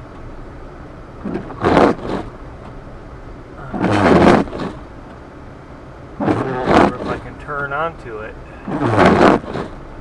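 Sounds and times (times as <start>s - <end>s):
car cabin drone: 0.0s - 10.0s.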